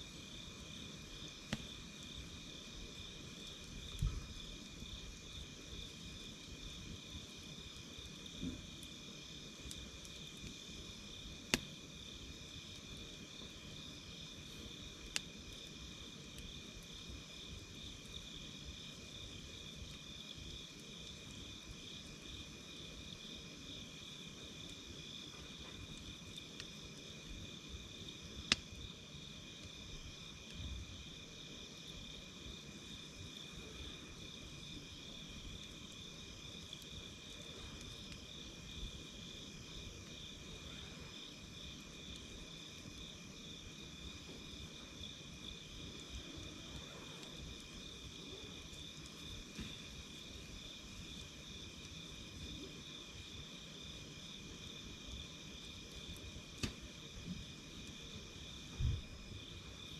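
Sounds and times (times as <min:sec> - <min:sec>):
campfire crackling: 0:00.0 - 0:59.9
night insects chirping: 0:00.0 - 0:59.9.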